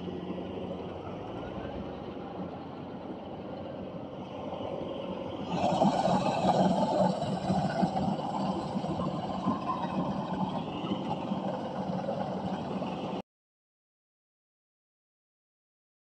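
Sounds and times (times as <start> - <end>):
engine running: 0.0 - 13.2.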